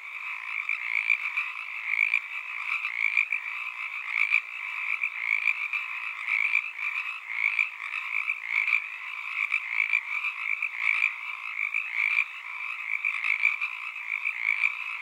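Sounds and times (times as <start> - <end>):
chorus of frogs calling: 0.0 - 15.0.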